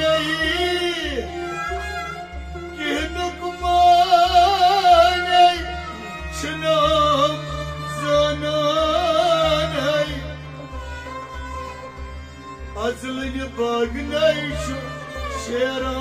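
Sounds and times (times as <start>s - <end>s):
man singing: 0.0s - 11.3s, 12.7s - 16.0s
harmonium: 0.0s - 16.0s
rabab: 0.0s - 16.0s.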